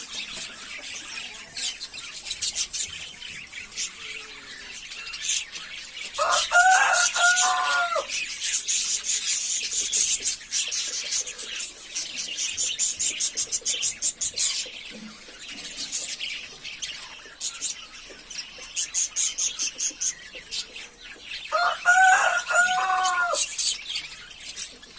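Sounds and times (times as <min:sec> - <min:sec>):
budgies chattering and chirping: 0:00.0 - 0:24.9.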